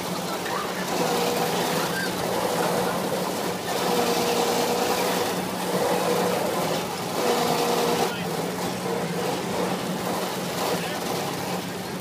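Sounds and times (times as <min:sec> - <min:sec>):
carnival ride machinery hum: 0:00.0 - 0:12.0
noisy wash: 0:00.0 - 0:12.0.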